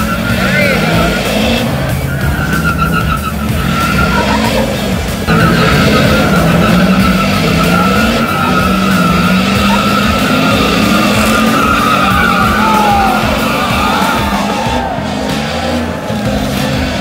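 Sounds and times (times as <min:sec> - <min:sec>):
tires squealing on dirt: 0:00.0 - 0:17.0
truck engines revving under load: 0:00.0 - 0:17.0.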